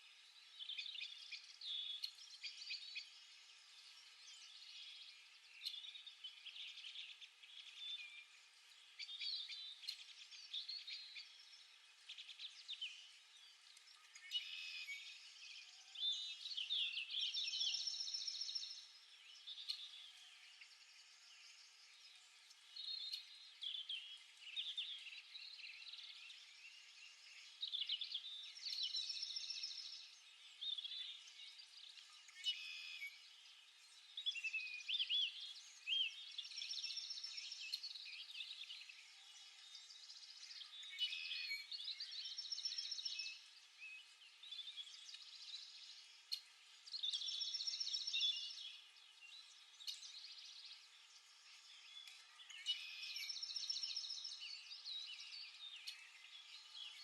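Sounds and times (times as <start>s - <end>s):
songbird trilled song: 0.0s - 57.0s.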